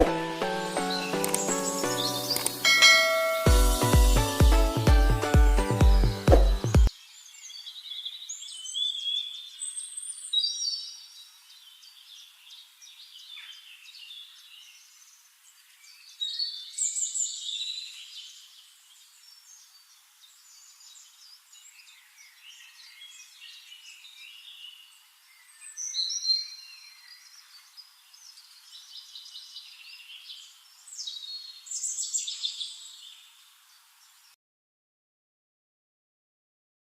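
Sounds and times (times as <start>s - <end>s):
songbirds singing and chirping: 0.0s - 4.6s, 5.2s - 34.4s.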